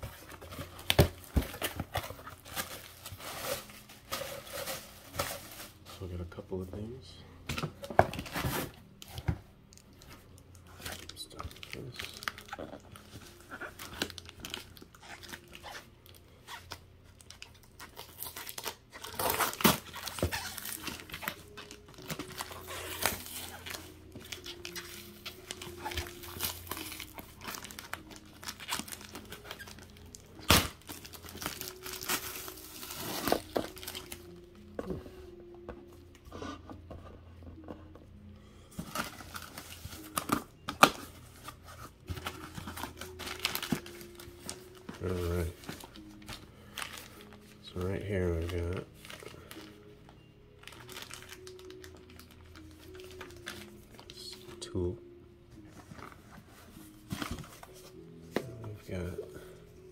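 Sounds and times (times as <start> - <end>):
packing tape tearing and crinkling: 0.0 - 6.1, 7.6 - 35.0, 38.8 - 54.7, 55.8 - 59.0
plastic wrap rustling: 0.0 - 7.0, 7.7 - 34.7, 38.8 - 49.9, 50.6 - 54.7.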